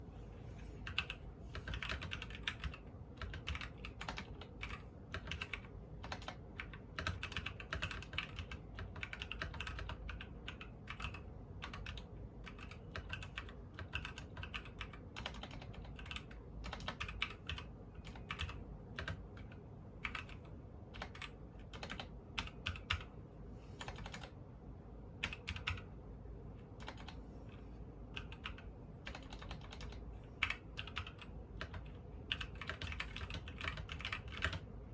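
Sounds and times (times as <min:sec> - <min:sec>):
mechanical keyboard typing: 0:00.8 - 0:23.1, 0:23.8 - 0:24.4, 0:25.2 - 0:25.9, 0:26.8 - 0:27.2, 0:28.2 - 0:34.7.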